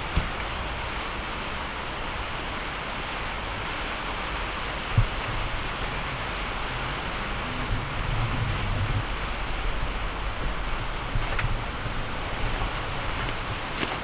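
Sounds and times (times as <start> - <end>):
pouring rain: 0.0 - 14.0.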